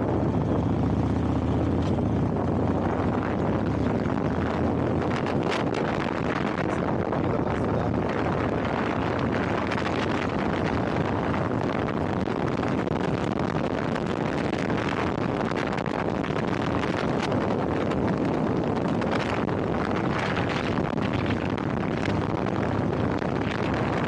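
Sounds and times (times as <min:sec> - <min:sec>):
moving vehicle noise: 0:00.0 - 0:24.0
wind rushing over microphone: 0:00.0 - 0:24.0.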